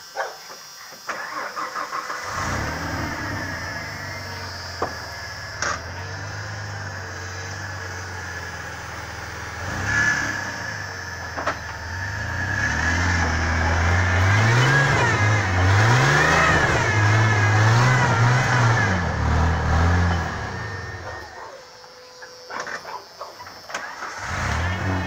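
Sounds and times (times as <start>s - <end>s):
truck engine revving: 1.2s - 21.8s, 22.5s - 25.0s.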